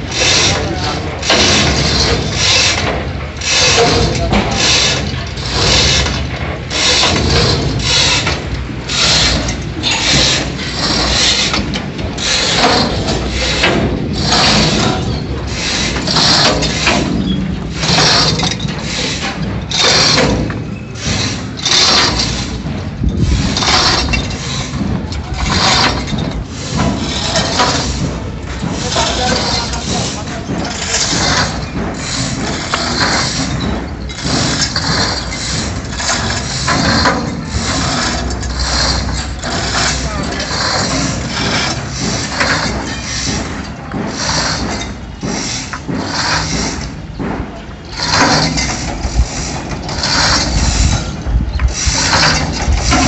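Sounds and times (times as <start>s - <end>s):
metal mechanism rasping: 0.0s - 53.0s.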